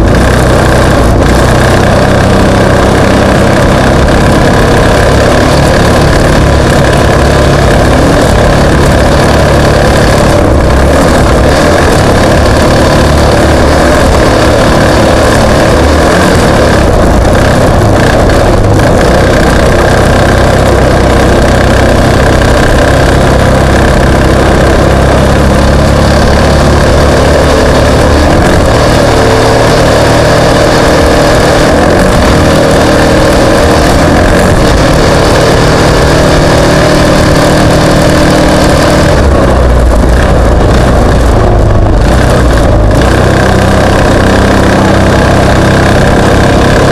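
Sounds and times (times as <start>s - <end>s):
racing engines running loudly: 0.0s - 46.9s.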